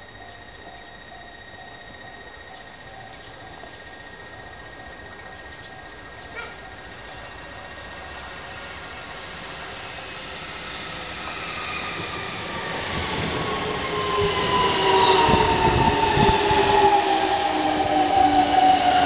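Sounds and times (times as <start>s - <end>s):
train motors whining: 0.0s - 19.0s.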